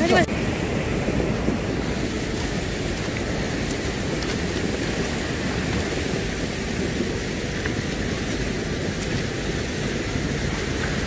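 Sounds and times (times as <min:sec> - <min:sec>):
wind rumble on microphone: 0:00.0 - 0:11.0
small waves on pebble shore: 0:00.1 - 0:11.0.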